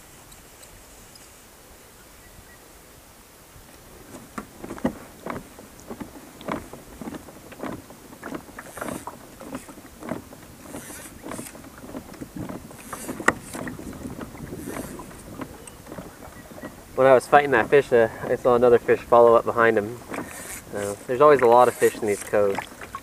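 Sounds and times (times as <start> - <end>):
water slapping against hull: 4.0 - 23.0.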